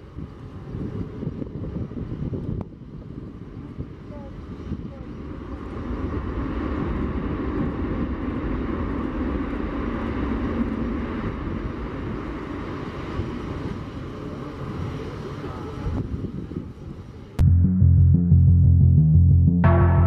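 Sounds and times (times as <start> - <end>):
jet engines rumbling: 0.0 - 17.4.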